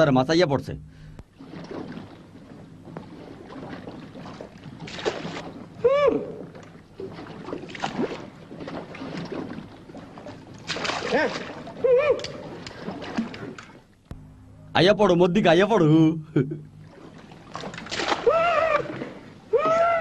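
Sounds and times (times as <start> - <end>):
water sloshing and splashing: 0.9 - 14.2, 16.6 - 20.0.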